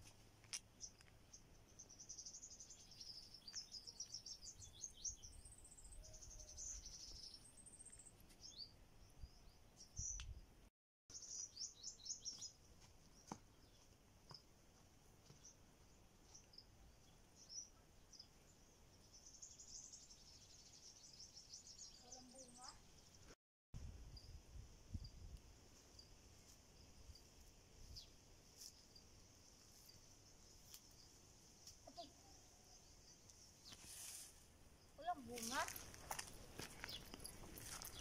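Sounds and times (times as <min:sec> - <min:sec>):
small birds chirping: 0:00.4 - 0:10.4, 0:11.1 - 0:14.4, 0:15.2 - 0:23.4, 0:27.8 - 0:38.0.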